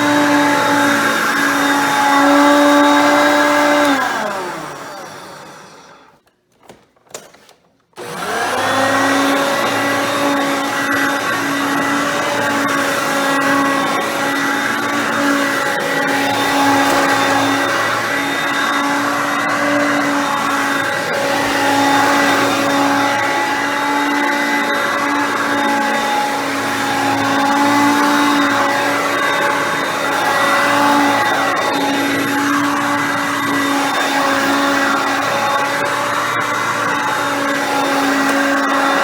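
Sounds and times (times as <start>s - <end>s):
vacuum cleaner motor running: 0.0s - 6.2s, 8.0s - 39.0s.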